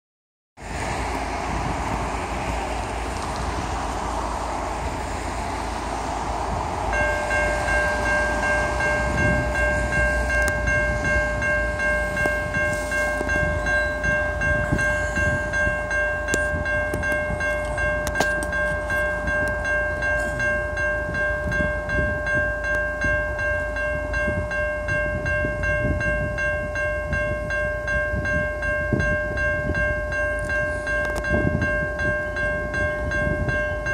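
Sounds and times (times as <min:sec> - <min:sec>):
railroad crossing bell ringing: 0:01.0 - 0:33.9.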